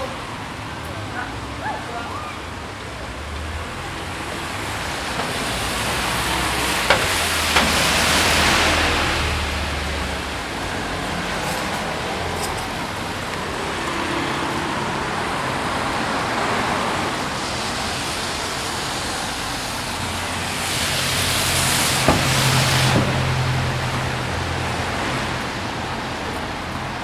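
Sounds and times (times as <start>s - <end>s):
cars going by: 0.0s - 27.0s
loud vehicle passing: 0.0s - 27.0s.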